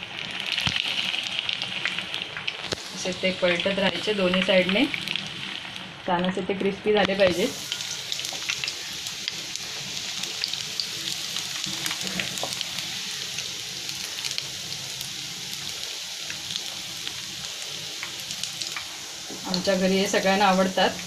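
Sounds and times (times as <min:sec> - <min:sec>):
oil sizzling with crackles: 0:00.0 - 0:21.0.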